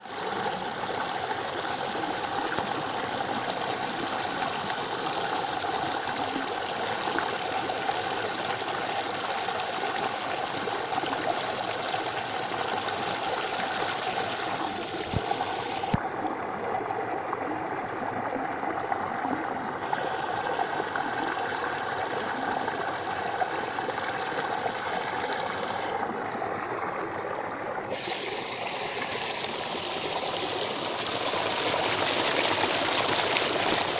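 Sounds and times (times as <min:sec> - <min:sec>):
water trickling in channel: 0:00.0 - 0:33.9.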